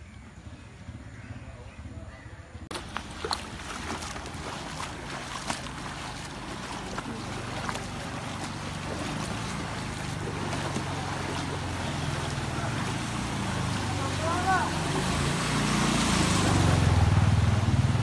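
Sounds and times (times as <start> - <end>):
motorcycle engines running: 0.0 - 18.0
water sloshing and splashing: 2.7 - 17.4.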